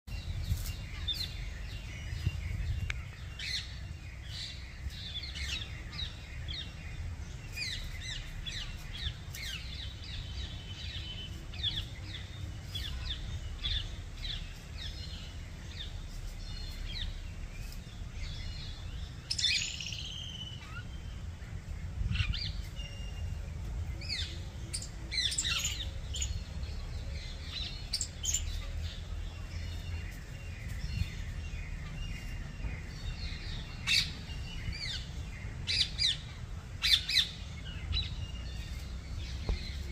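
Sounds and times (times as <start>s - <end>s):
small birds chirping: 0.0s - 39.9s
steady low rumble: 0.1s - 39.9s.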